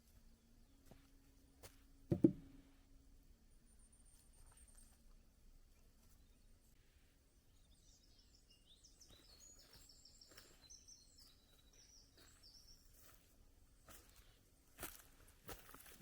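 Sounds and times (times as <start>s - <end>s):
faint songbird singing: 0.1s - 1.6s, 3.5s - 16.0s.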